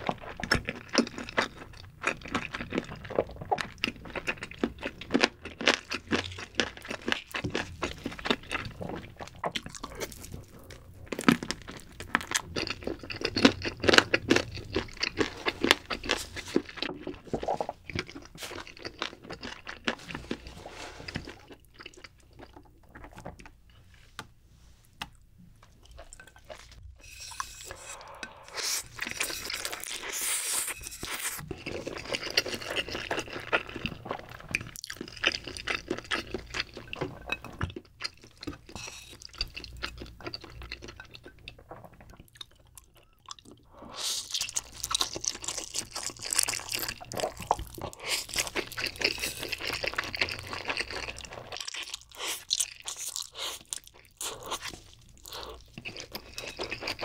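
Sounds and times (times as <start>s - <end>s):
slurping and chewing noodles: 0.0s - 23.6s, 25.8s - 57.0s.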